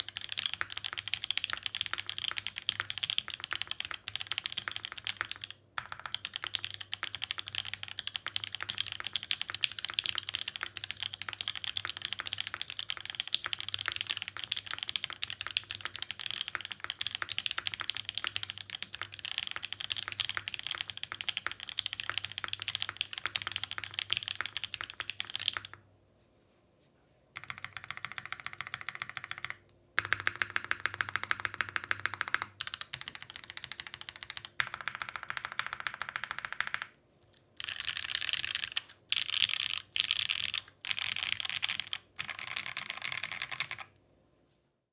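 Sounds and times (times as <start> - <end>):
rapid typing on mechanical keyboard: 0.0 - 25.8, 27.4 - 36.9, 37.6 - 43.9.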